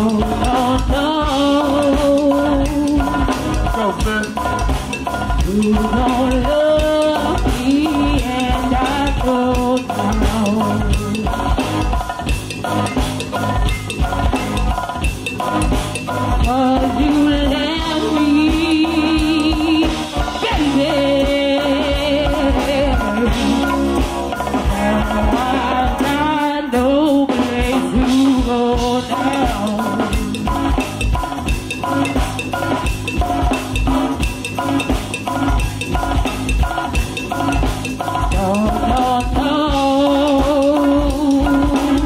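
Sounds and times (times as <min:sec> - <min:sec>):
drum kit beat: 0:00.0 - 0:42.0
live band playing: 0:00.0 - 0:42.0.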